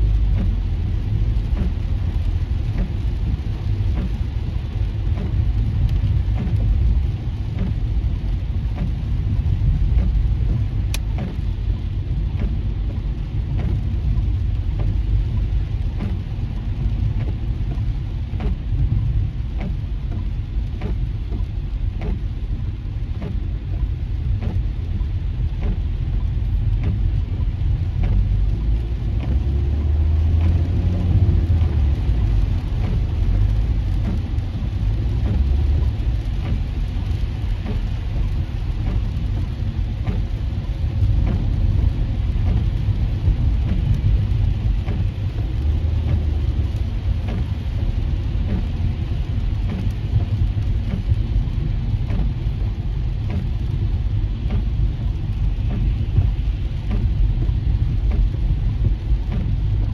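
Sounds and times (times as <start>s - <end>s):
raindrops ticking on windshield: 0.0s - 59.9s
road and tyre rumble: 0.0s - 59.9s.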